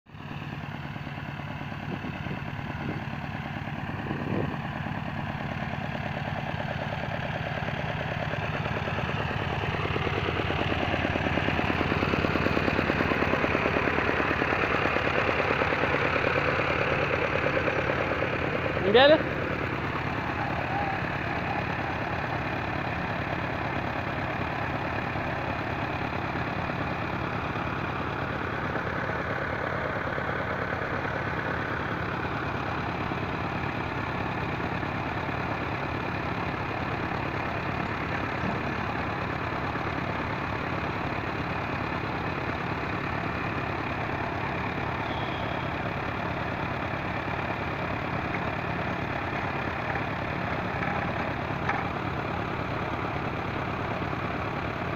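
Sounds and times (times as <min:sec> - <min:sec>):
core drilling rig running: 0:00.2 - 0:54.9.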